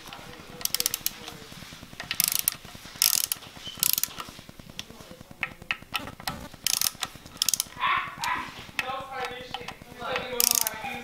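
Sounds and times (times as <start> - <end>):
hand ratchet clicking: 0.0 - 11.0.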